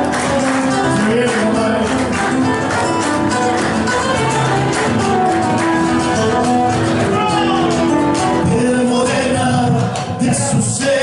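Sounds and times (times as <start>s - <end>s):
held instrumental notes: 0.0s - 9.3s
percussive beat: 0.0s - 11.0s.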